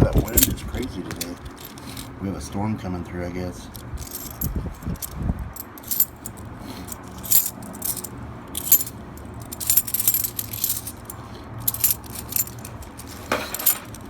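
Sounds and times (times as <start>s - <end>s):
coins clinking: 0.2s - 0.6s, 1.2s - 2.1s, 3.8s - 14.0s.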